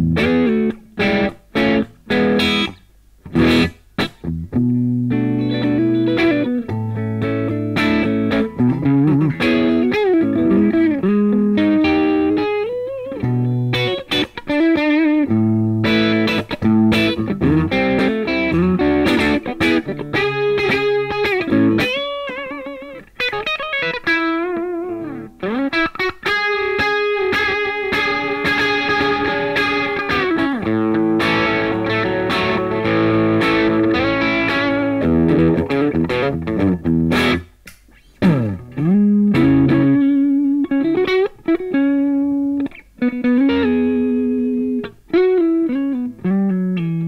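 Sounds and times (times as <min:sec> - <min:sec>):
electric guitar lead playing: 0:00.0 - 0:47.0.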